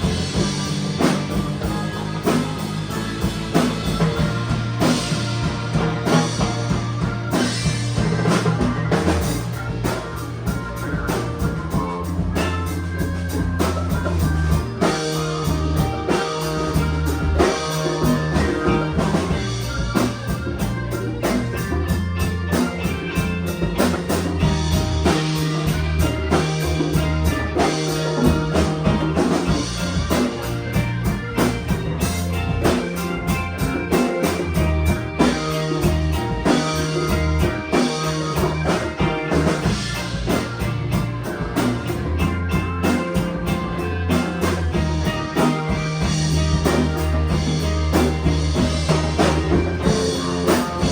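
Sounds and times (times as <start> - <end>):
rock band playing: 0.0 - 50.9.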